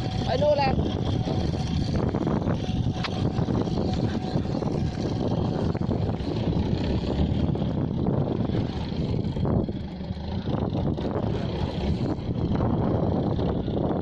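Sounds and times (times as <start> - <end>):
fishing boat engine rumble: 0.0 - 14.0
wind buffeting microphone: 0.0 - 14.0.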